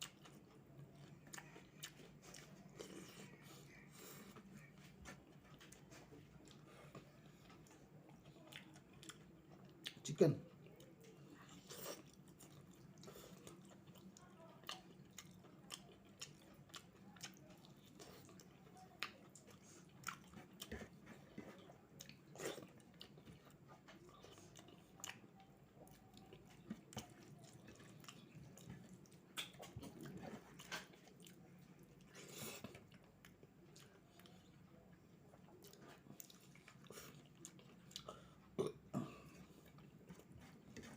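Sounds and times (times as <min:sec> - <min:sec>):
chewing and biting food: 0:00.0 - 0:10.0, 0:10.6 - 0:40.9.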